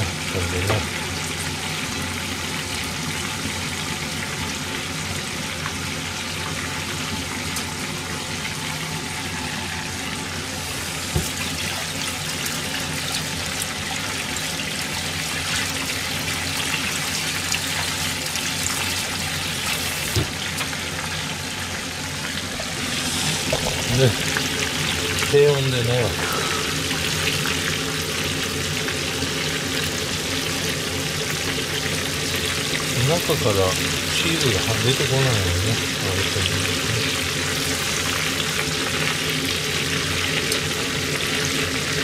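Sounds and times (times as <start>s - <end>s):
food deep-frying in oil: 0.0s - 42.0s.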